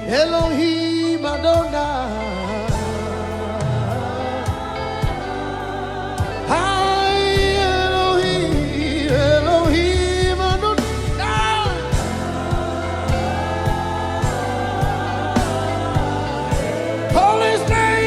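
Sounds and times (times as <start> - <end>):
low band accompaniment: 0.0 - 18.0.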